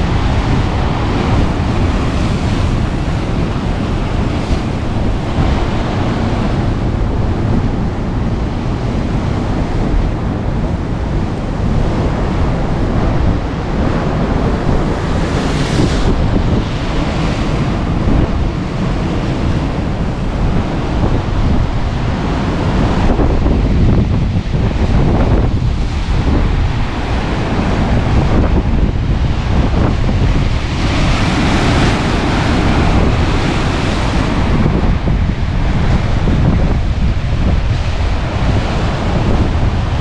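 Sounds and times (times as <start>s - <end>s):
sea surf crashing over rocks: 0.0s - 40.0s
wind buffeting microphone: 0.0s - 40.0s.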